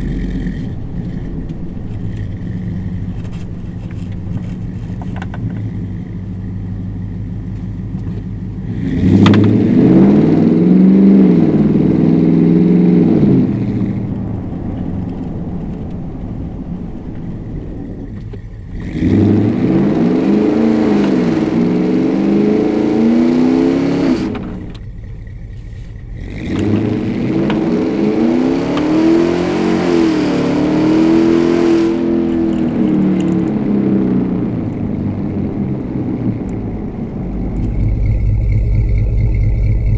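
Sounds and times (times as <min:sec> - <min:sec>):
engine full-throttle revving: 0:00.0 - 0:39.9.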